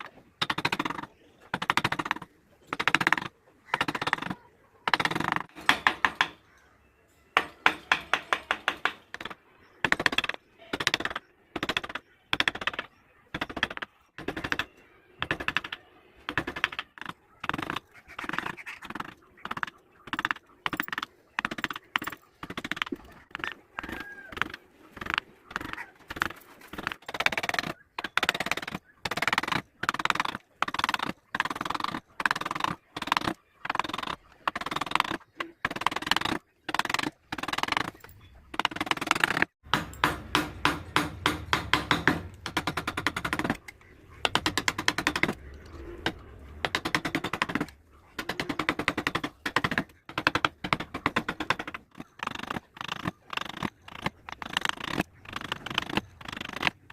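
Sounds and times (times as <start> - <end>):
carving tools cutting wood: 0.4 - 6.3, 7.6 - 56.9.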